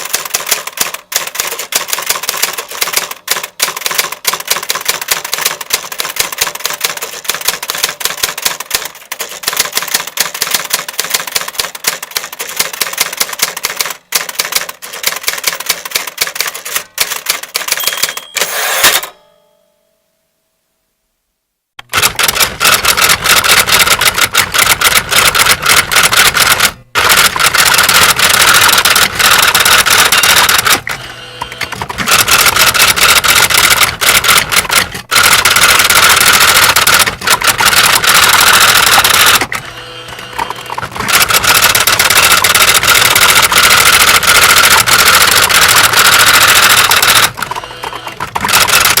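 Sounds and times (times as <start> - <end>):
typewriter keys typing: 0.0 - 19.0, 21.8 - 49.0.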